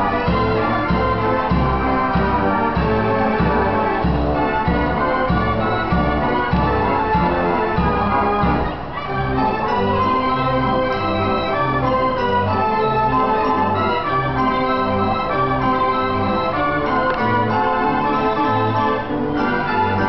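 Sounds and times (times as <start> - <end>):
band organ playing a march: 0.0 - 20.0.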